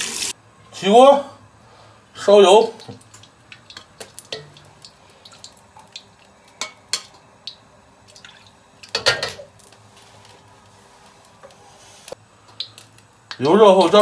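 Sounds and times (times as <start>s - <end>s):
faint steady hum: 0.3s - 14.0s.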